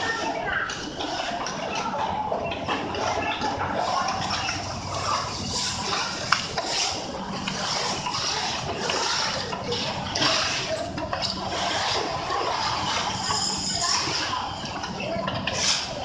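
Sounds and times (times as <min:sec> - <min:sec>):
steady low machine hum: 0:00.0 - 0:16.0.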